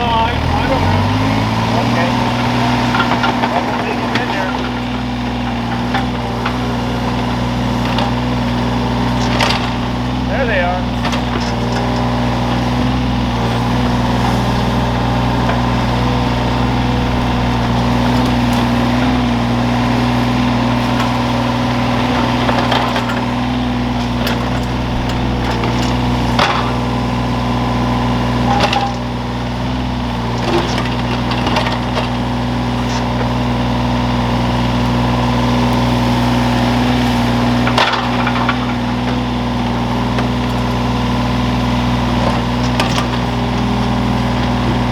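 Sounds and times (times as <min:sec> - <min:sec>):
excavator engine running: 0:00.0 - 0:44.9.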